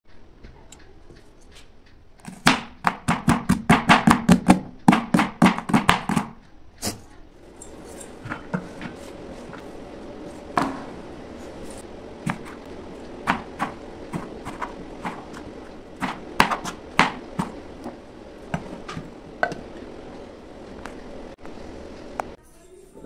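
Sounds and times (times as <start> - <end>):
low steady hum: 0.1 - 23.0.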